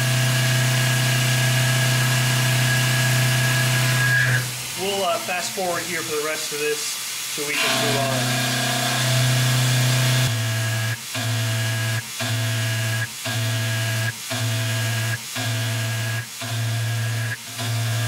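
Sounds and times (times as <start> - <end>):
milling machine hum: 0.0 - 18.0.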